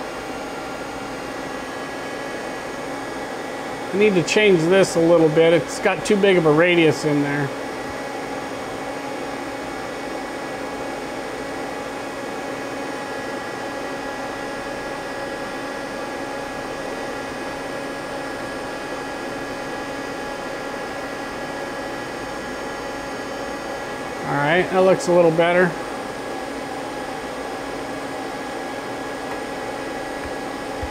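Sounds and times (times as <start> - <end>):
mechanical hum with tones: 0.0 - 30.9.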